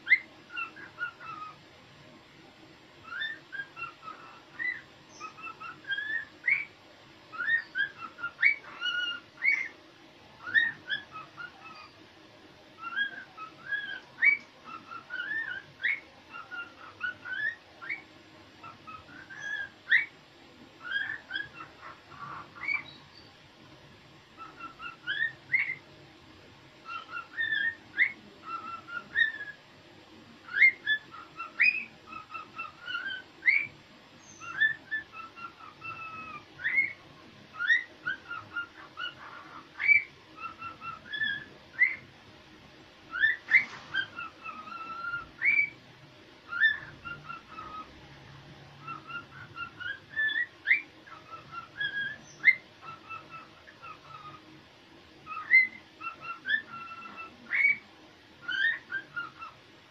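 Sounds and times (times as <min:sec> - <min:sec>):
cockatiel whistling: 0:00.0 - 0:01.6, 0:03.0 - 0:09.7, 0:10.4 - 0:12.0, 0:12.8 - 0:20.2, 0:20.8 - 0:23.0, 0:24.4 - 0:25.8, 0:26.8 - 0:29.6, 0:30.4 - 0:42.1, 0:43.1 - 0:45.8, 0:46.5 - 0:47.9, 0:48.8 - 0:54.4, 0:55.2 - 0:59.6.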